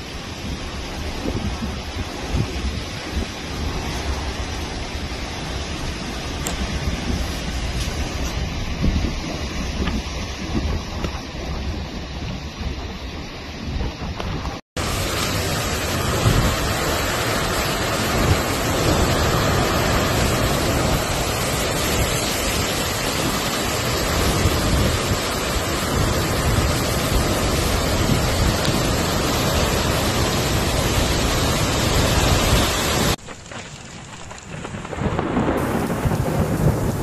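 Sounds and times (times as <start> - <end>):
heavy rain and wind: 0.0 - 37.0.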